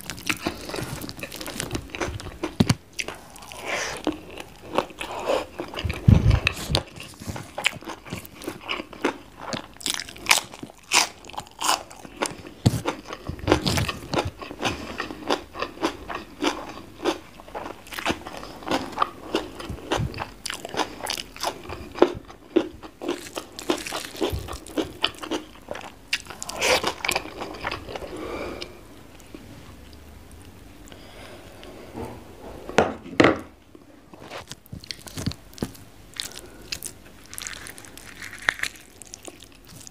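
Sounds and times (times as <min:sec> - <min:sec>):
chewing and crunching food: 0:00.0 - 0:30.4, 0:34.1 - 0:39.9.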